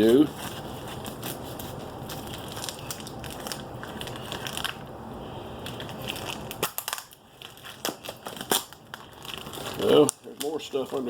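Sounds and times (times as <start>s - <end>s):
packaging crinkling and rustling: 0.0s - 5.0s, 5.6s - 11.0s.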